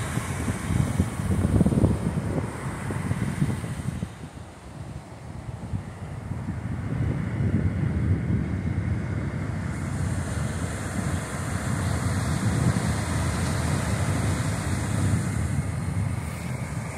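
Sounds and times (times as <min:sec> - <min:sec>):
wind gusting on microphone: 0:00.0 - 0:16.9.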